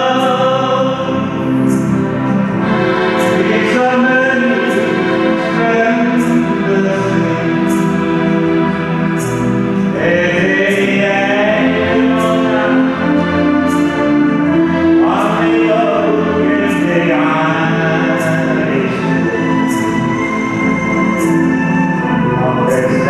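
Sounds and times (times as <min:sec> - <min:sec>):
man singing: 0:00.0 - 0:21.4, 0:22.0 - 0:23.0
electronic keyboard chords: 0:00.0 - 0:23.0.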